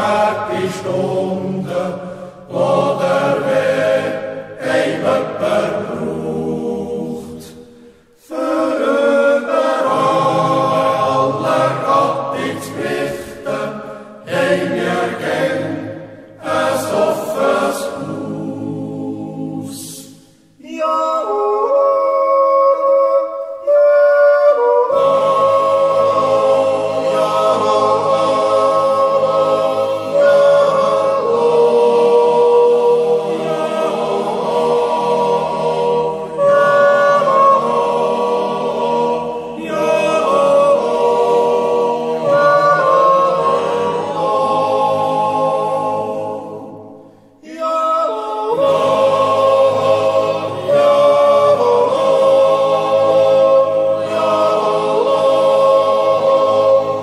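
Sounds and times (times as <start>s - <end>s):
choir yodeling a cappella: 0.0s - 57.0s.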